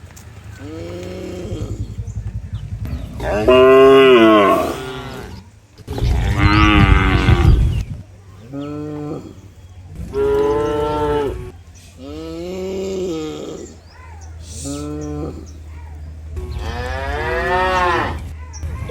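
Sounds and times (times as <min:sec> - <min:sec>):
cattle mooing: 0:00.4 - 0:18.9.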